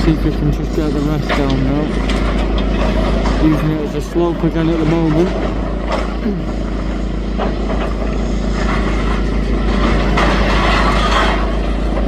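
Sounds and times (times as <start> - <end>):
excavator diesel engine running: 0.0 - 12.0
rushing rattling noise: 0.0 - 12.0.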